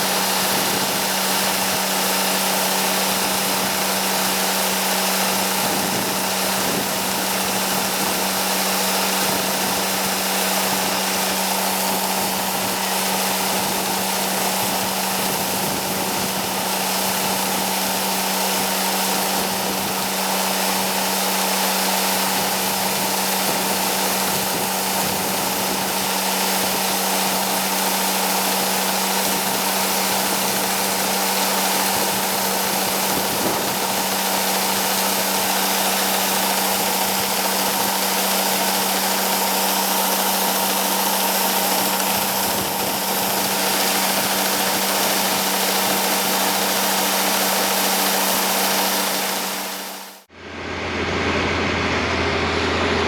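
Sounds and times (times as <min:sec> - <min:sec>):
harvest machinery engine humming: 0:00.0 - 0:53.0.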